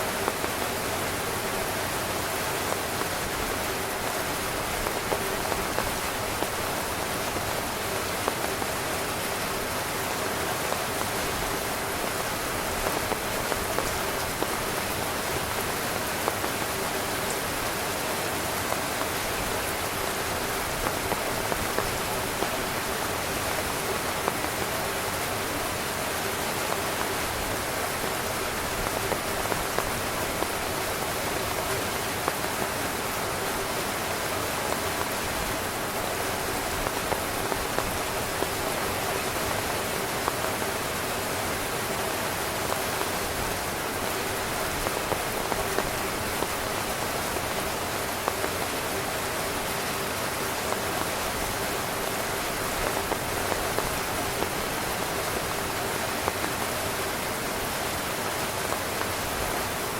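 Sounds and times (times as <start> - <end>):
rain drumming on tent fabric: 0.0 - 59.9.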